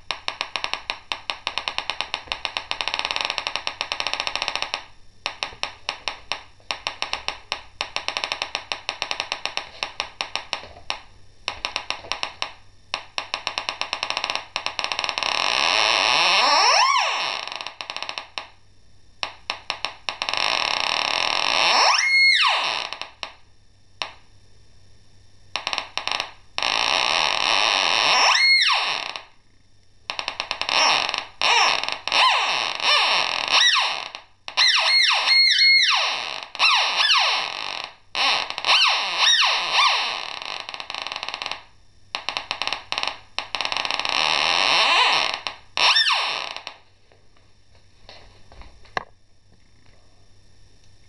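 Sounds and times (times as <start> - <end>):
metal detector electronic buzz: 0.0 - 18.4, 19.2 - 23.3, 25.5 - 29.4, 30.1 - 46.8.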